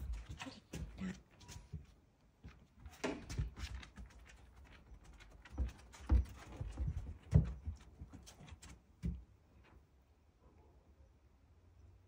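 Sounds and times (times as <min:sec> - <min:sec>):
dog paws on wooden decking: 0:00.0 - 0:10.0.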